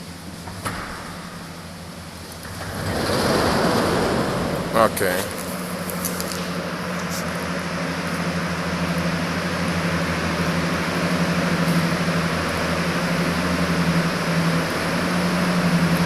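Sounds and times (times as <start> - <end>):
refrigeration electrical hum: 0.0 - 16.0
rush of fan air: 0.0 - 16.0.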